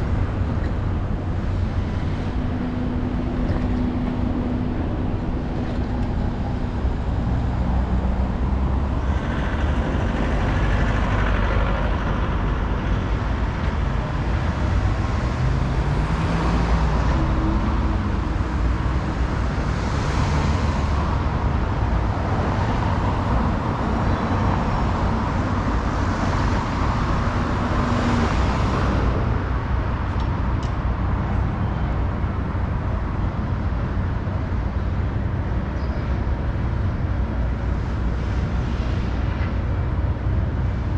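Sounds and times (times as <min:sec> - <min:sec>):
steady low traffic rumble: 0:00.0 - 0:40.9
vehicles passing: 0:00.0 - 0:40.9.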